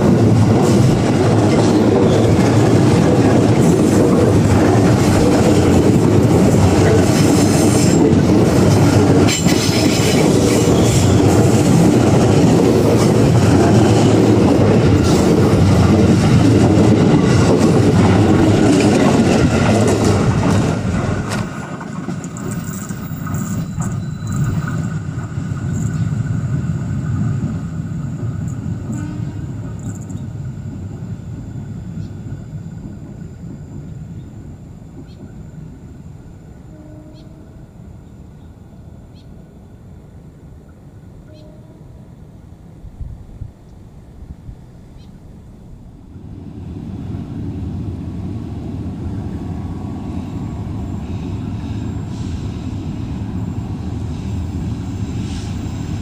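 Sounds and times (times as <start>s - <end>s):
train wheels rumbling and clacking: 0.0s - 37.2s, 45.7s - 56.0s
distant train running: 0.0s - 56.0s.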